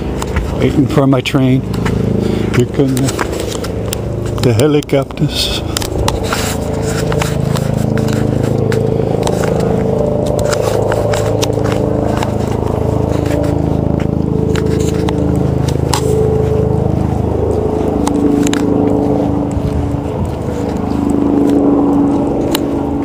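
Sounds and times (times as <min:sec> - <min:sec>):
helicopter rotor drone: 0:00.0 - 0:23.0
microphone handling scraping and clicking: 0:00.0 - 0:23.0.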